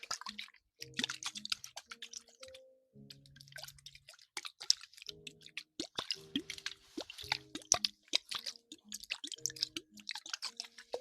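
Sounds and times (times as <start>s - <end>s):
faint steady background tone: 0.0s - 11.0s
wet crackling of hair washing: 0.0s - 11.0s.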